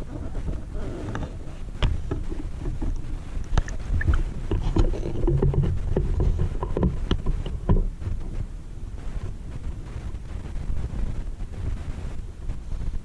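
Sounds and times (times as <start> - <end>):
underwater rumble of moving water: 0.0 - 13.0.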